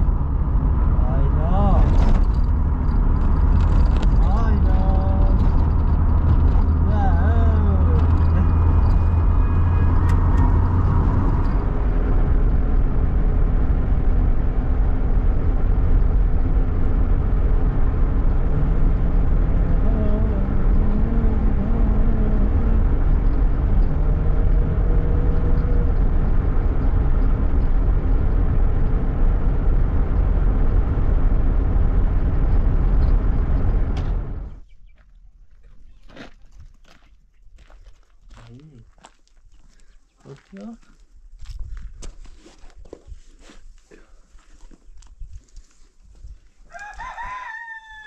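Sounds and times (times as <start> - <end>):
car engine and tyre rumble: 0.0 - 48.0.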